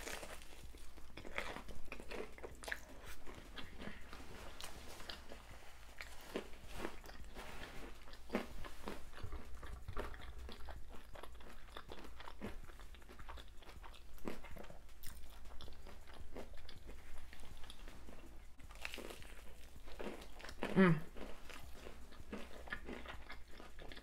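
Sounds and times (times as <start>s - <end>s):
crisp chewing crunches: 0.0s - 24.0s.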